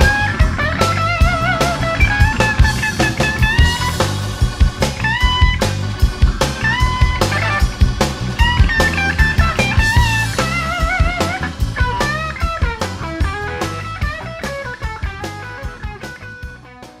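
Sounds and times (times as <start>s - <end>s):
bluesy electric guitar lead: 0.0s - 17.0s
steady drum beat: 0.0s - 17.0s.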